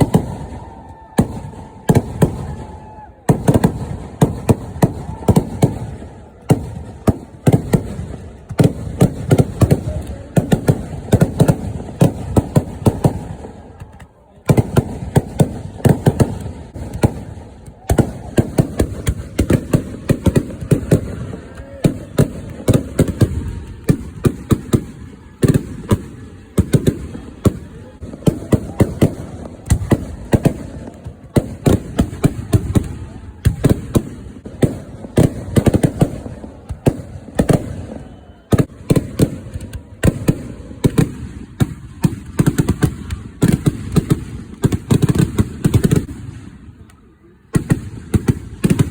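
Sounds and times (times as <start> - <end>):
fireworks barrage cracking: 0.0 - 48.9.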